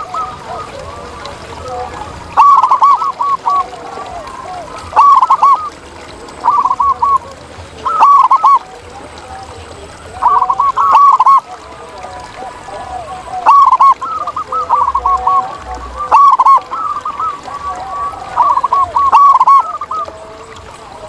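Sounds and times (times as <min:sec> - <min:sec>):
dove cooing: 0:00.0 - 0:21.0
faint cooing of other doves: 0:00.0 - 0:21.0.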